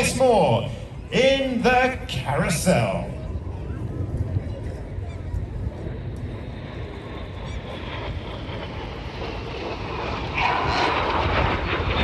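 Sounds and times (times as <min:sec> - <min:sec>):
jet engines flying past: 0:00.0 - 0:12.0.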